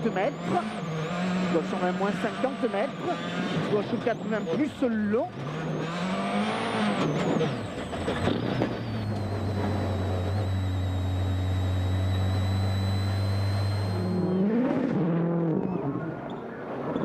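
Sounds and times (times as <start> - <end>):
thin high whine: 0.0 - 14.7
rally car engine revving: 0.0 - 17.0.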